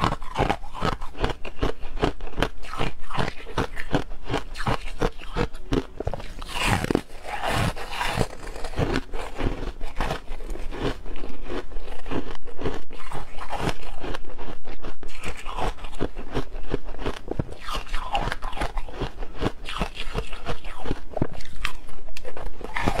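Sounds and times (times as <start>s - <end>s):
frost being chewed crunching: 0.0s - 23.0s.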